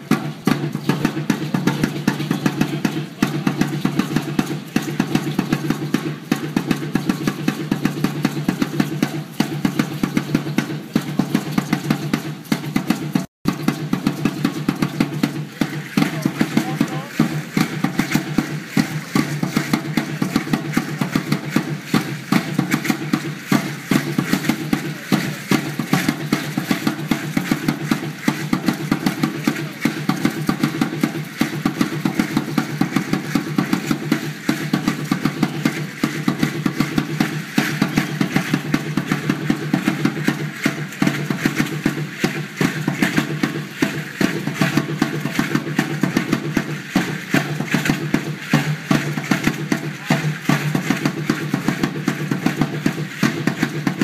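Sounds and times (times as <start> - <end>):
dance drumbeat: 0.0 - 54.0
seed-pod ankle rattles shaking: 0.0 - 54.0.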